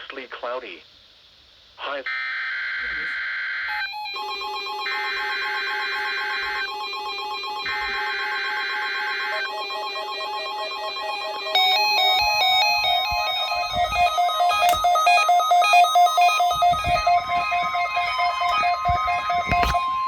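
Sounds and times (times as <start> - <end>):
screeching digital header tones: 2.1 - 20.0
radio alert beeps and buzzing: 3.7 - 20.0
stepping melody of beeps: 3.7 - 20.0.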